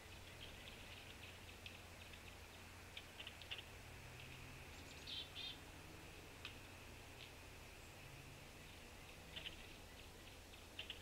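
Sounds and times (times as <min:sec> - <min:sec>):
low steady hum: 0:00.0 - 0:11.0
songbirds chirping: 0:00.0 - 0:11.0.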